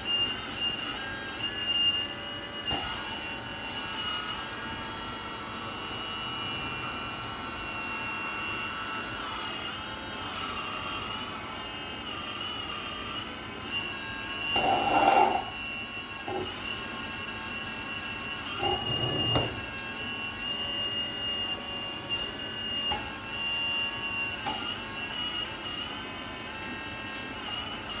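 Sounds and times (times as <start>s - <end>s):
toy excavator motors whining: 0.0s - 4.8s, 9.2s - 28.0s.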